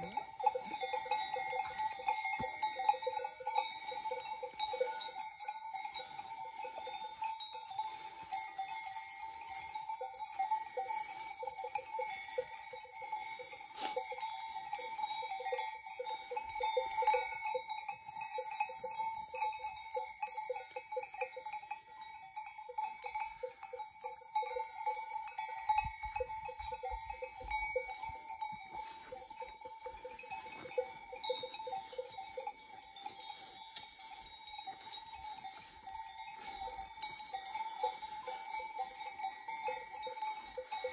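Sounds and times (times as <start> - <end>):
sheep bells clanking: 0.0 - 40.9.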